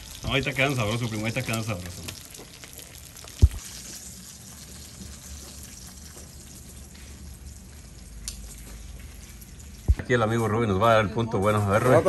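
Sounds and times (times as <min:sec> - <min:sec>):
meat sizzling: 0:00.0 - 0:10.5.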